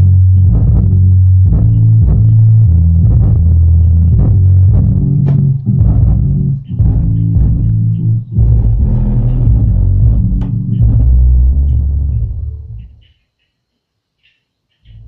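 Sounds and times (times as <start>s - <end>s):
bass-heavy music with guitar: 0.0s - 13.0s.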